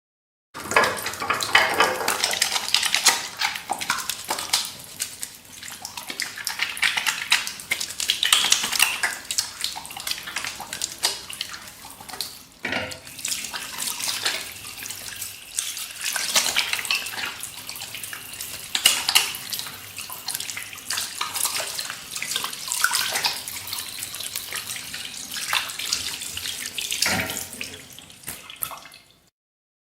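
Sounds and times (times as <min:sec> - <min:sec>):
water running from a tap: 0:00.6 - 0:29.3.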